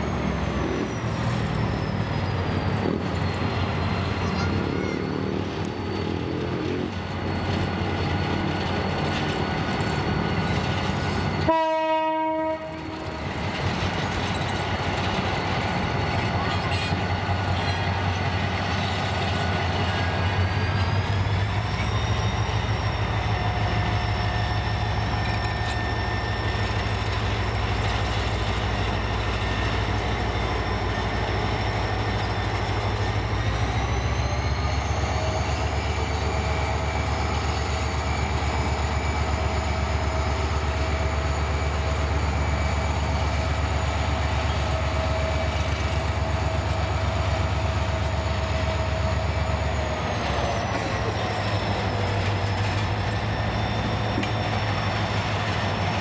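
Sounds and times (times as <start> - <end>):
diesel locomotive engine throb: 0.0 - 56.0
locomotive whine: 0.0 - 56.0.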